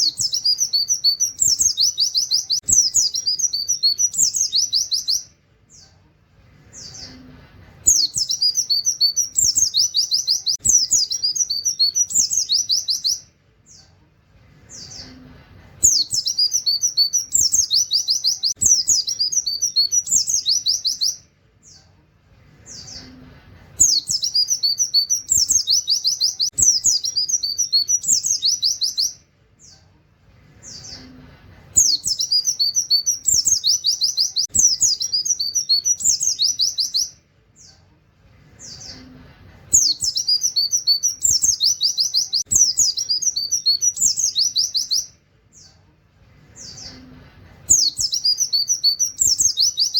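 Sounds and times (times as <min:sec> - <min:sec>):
bird singing: 0:00.0 - 0:06.0, 0:06.7 - 0:14.0, 0:15.8 - 0:21.9, 0:23.8 - 0:29.8, 0:31.8 - 0:37.8, 0:38.6 - 0:45.8, 0:47.7 - 0:49.9.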